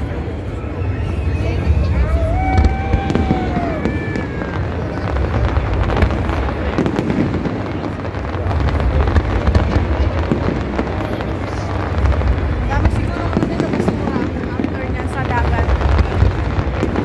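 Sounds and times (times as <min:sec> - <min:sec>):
fireworks crackling pops: 0:02.4 - 0:17.0.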